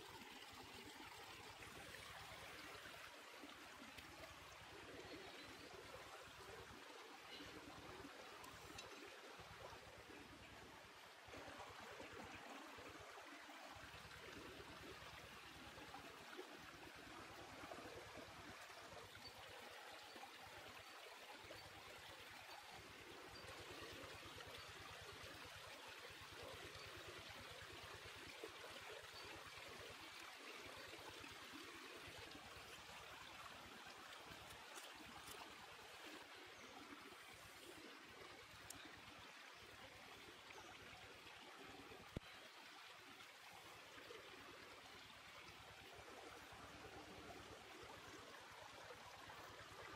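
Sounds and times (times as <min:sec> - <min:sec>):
stream running water: 0:00.0 - 0:49.9.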